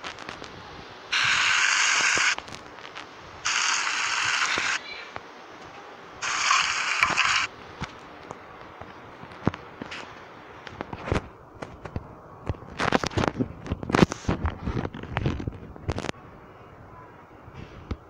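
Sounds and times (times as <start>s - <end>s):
faint crackles and pops: 0.0s - 16.2s.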